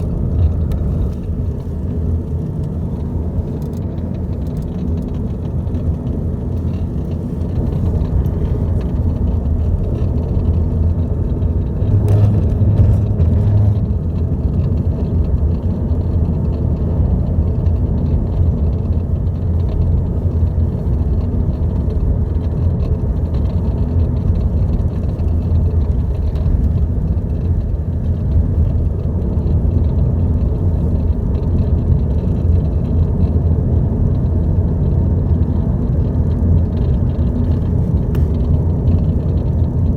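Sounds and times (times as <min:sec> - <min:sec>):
car engine rumble inside cabin: 0:00.0 - 0:39.9
dashboard rattle ticks: 0:00.0 - 0:39.9.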